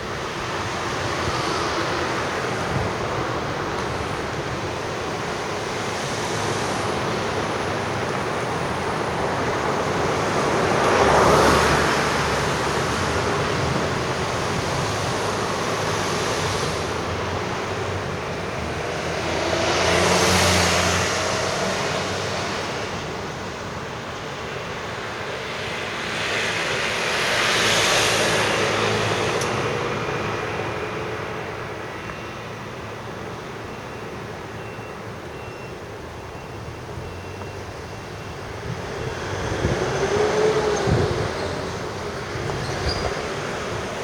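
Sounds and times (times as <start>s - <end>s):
tyres hissing on road: 0.0s - 44.0s
vehicle engine hum: 0.0s - 44.0s
vehicles passing close by: 0.0s - 44.0s.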